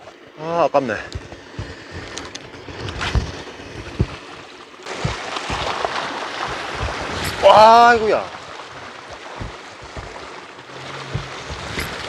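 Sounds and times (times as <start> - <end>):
water lapping at shore: 0.0 - 12.0
low thumps: 1.0 - 12.0
wind on microphone: 1.0 - 12.0.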